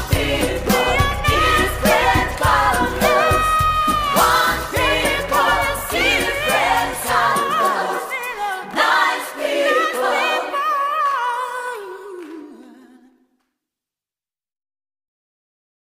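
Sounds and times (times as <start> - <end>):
voices singing together: 0.0 - 13.2.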